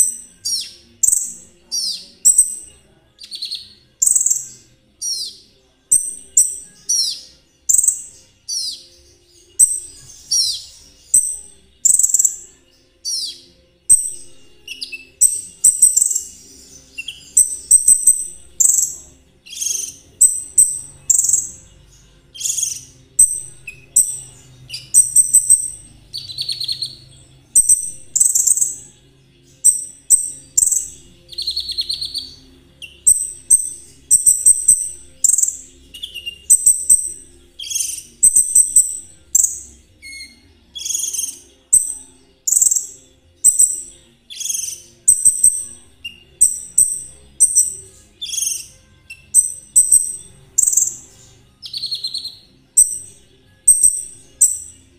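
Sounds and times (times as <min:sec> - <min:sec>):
songbird chirping: 0:00.0 - 0:54.9.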